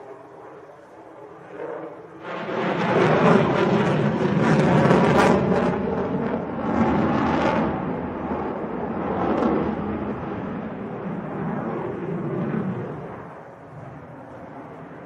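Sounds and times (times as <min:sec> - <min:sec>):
fighter jet afterburner roar: 0:00.0 - 0:15.0.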